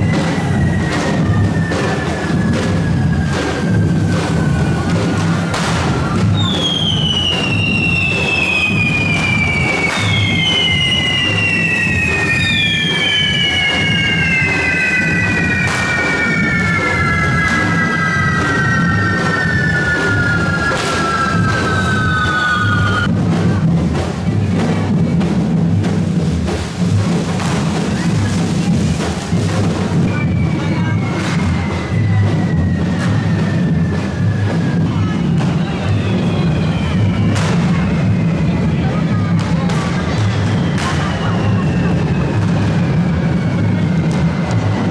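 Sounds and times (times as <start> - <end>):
firework bangs: 0.0 - 44.9
steady drumming: 0.0 - 44.9
whistling fireworks: 0.0 - 44.9.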